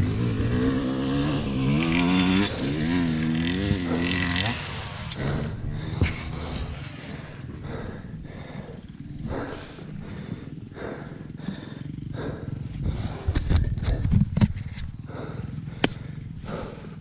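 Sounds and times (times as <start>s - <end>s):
low steady rumble: 0.0s - 17.0s
heavy breathing in helmet: 2.3s - 17.0s.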